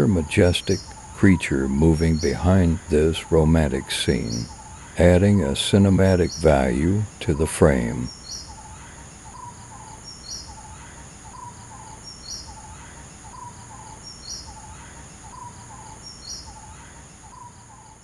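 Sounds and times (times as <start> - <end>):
bird high chirp: 0.0 - 18.0
high-pitched insect drone: 0.0 - 18.0.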